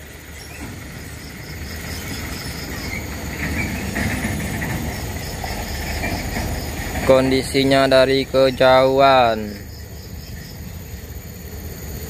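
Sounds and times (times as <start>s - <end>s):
insects chirping: 0.0s - 12.0s
vehicle engine rumble: 0.0s - 12.0s.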